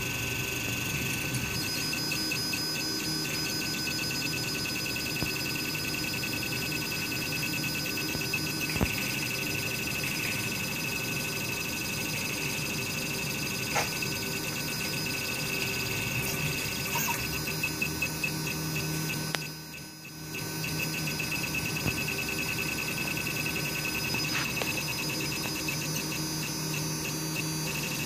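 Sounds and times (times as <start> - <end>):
steady machine whir: 0.0 - 28.0
stepper motor tones pulsing: 0.0 - 28.0.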